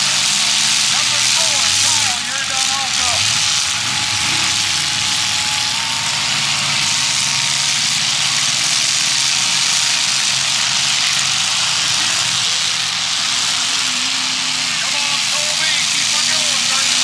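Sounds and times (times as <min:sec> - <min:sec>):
car engines running: 0:00.0 - 0:17.0.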